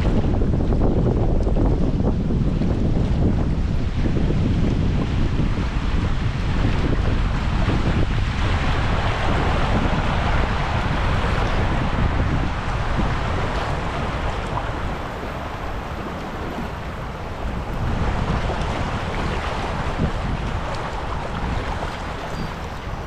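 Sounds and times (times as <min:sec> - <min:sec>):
river water: 0:00.0 - 0:23.0
wind rumbling on microphone: 0:00.0 - 0:23.0.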